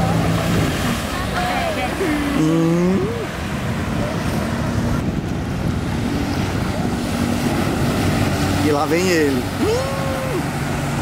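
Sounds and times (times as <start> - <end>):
faint watercraft engine droning: 0.0 - 11.0
lake water splashing: 0.0 - 11.0
wind on microphone: 0.0 - 11.0.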